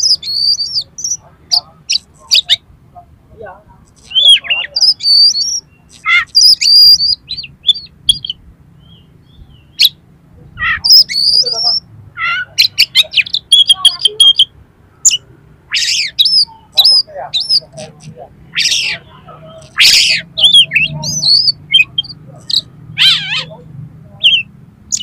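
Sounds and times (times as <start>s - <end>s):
bird singing whistles and harsh notes: 0.0s - 2.6s, 4.0s - 10.0s, 10.6s - 17.9s, 18.5s - 23.5s.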